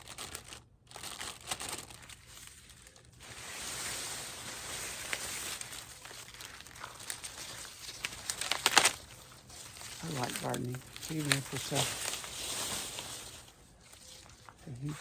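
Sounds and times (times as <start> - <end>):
dry corn leaves rustling: 0.0 - 15.0.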